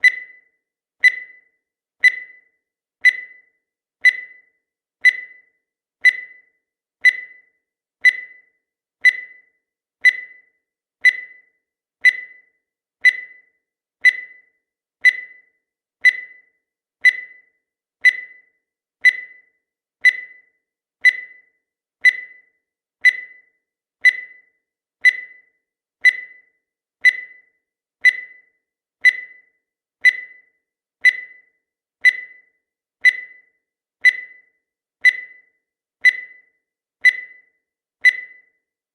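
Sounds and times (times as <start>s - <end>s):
timer ticking: 0.0s - 38.7s.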